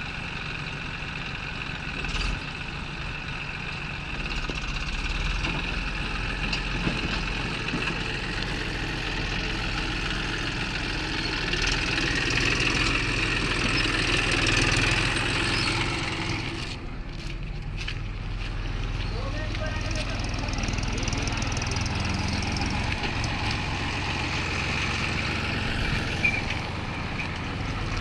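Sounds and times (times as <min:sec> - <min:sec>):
backhoe loader diesel engine running: 0:00.0 - 0:28.0.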